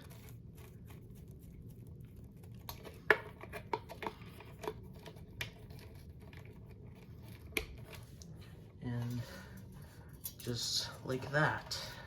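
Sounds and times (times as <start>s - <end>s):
clicks and rustles of wires: 0.0s - 12.0s.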